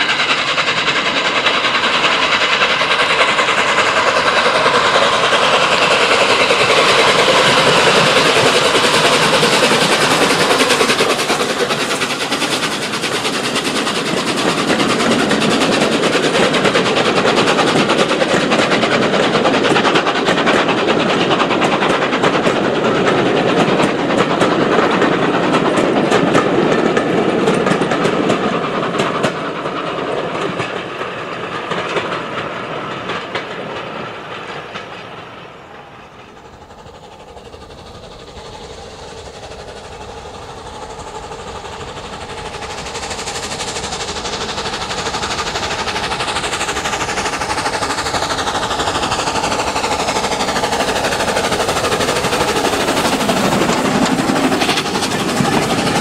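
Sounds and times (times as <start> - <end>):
train rolling past: 0.0 - 56.0
wheels clicking over rail joints: 0.0 - 56.0.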